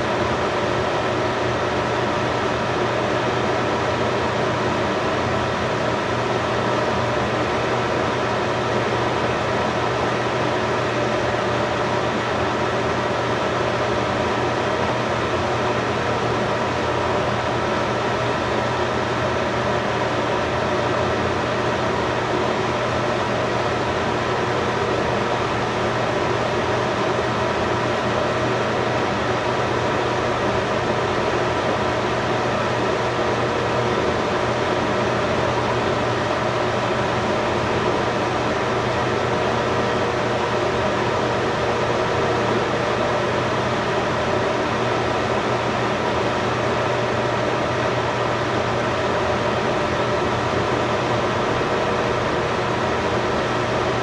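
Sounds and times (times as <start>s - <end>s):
mechanical hum with hiss: 0.0s - 54.0s.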